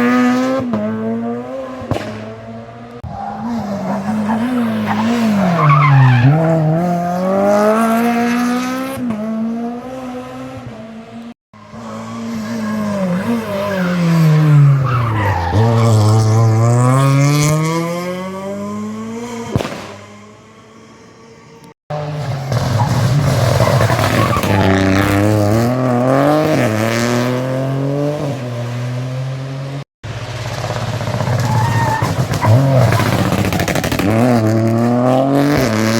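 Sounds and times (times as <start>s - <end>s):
rally car engines: 0.0s - 35.9s.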